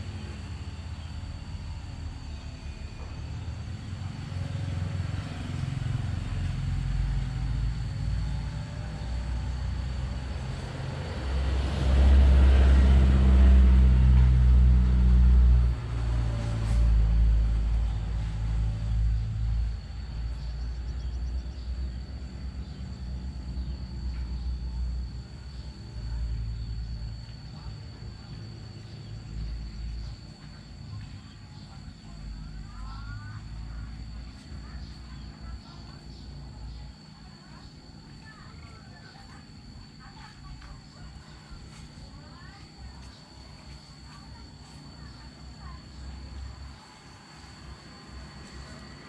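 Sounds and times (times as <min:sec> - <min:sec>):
vehicle engine rumble: 0:00.0 - 0:49.0.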